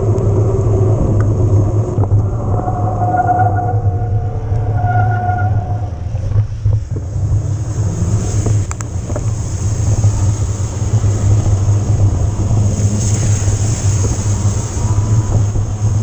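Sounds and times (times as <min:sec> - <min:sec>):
wind and tyre rumble: 0:00.0 - 0:16.0.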